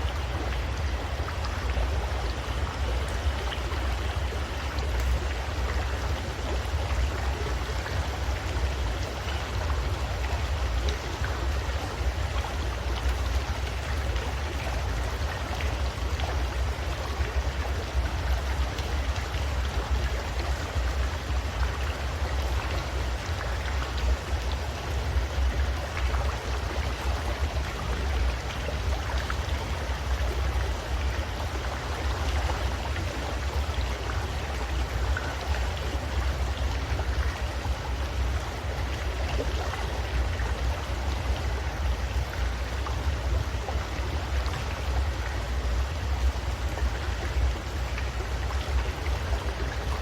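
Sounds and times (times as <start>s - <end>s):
river water rushing: 0.0s - 50.0s.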